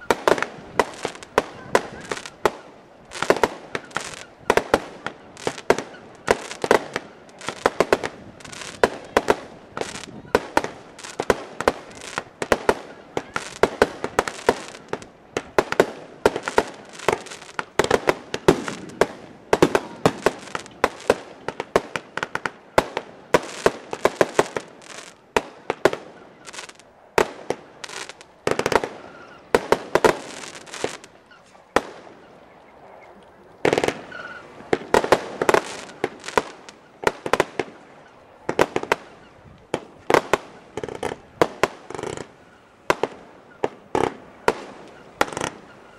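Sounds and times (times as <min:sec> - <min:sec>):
fireworks bursts and crackle: 0:00.0 - 0:32.2, 0:33.6 - 0:37.8, 0:38.5 - 0:45.9.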